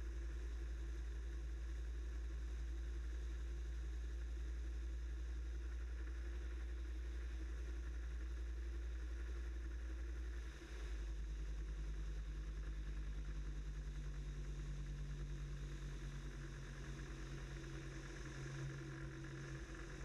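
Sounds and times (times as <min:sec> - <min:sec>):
ultralight aircraft engine: 0:00.0 - 0:20.0.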